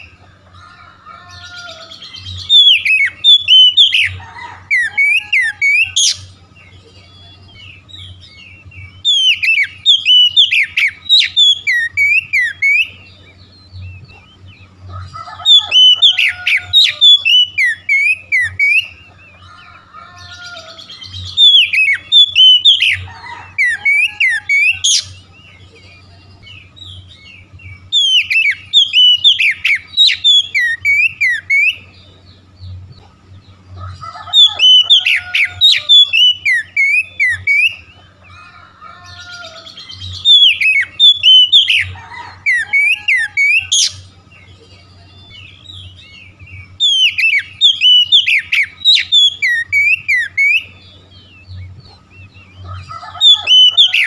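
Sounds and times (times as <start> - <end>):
bird singing whistled notes: 1.3 - 32.8, 34.2 - 38.2, 39.1 - 54.0.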